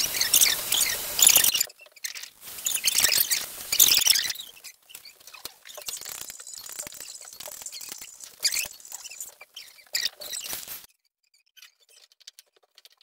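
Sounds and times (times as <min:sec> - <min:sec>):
squeaky scratchy scrubbing: 0:00.0 - 0:13.0.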